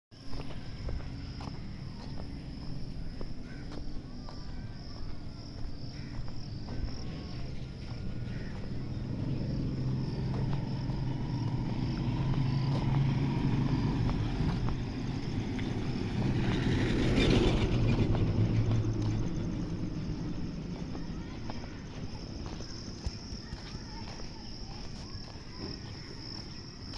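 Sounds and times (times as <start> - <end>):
motorcycle engine running: 0.2 - 25.6.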